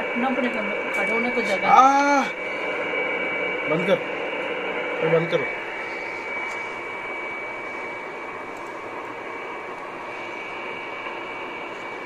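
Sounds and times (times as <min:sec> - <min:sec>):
thin steady tone: 0:00.0 - 0:12.0.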